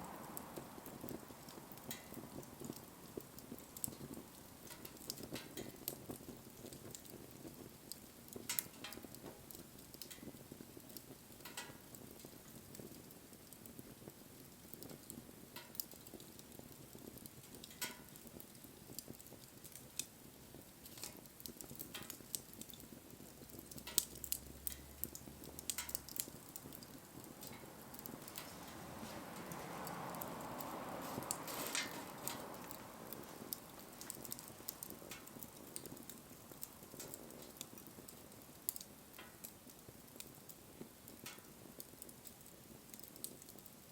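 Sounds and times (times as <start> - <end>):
campfire crackling and popping: 0.0 - 43.9
faint steady hiss: 0.0 - 43.9.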